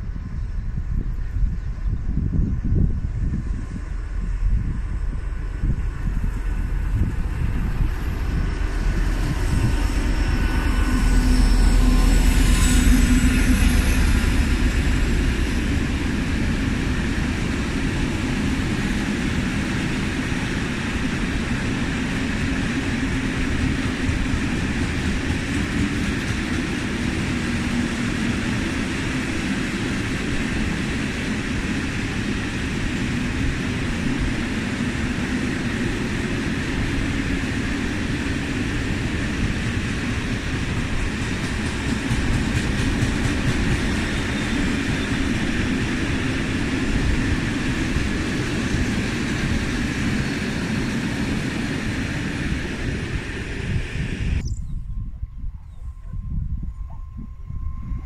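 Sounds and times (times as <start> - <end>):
diesel locomotive rumbling by: 0.0 - 58.0.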